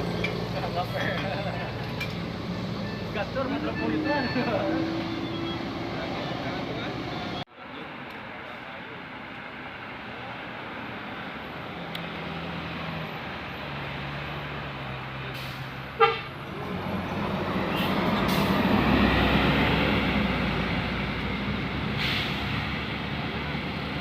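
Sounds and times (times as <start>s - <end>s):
bus engine running: 0.0s - 7.5s, 8.3s - 24.0s.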